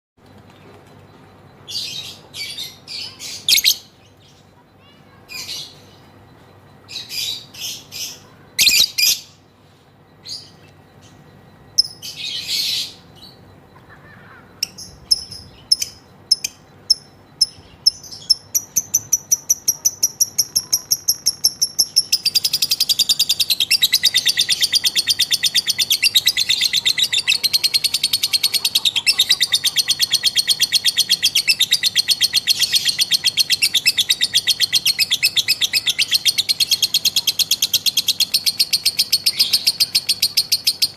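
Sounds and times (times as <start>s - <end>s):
lovebird chirping and chattering: 1.6s - 6.1s, 6.9s - 9.4s, 10.2s - 40.9s.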